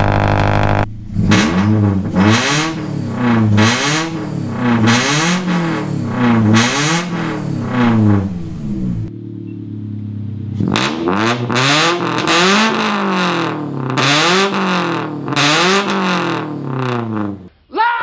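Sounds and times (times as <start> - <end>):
raspy car engine revving: 0.0 - 17.5.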